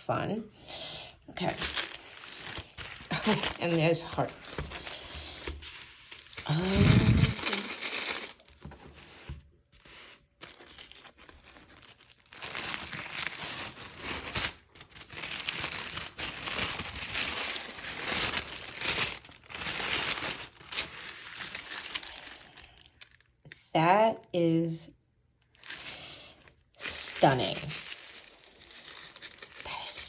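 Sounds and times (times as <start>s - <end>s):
paper crinkling and tearing: 1.4s - 23.2s, 25.6s - 26.2s, 26.8s - 30.0s.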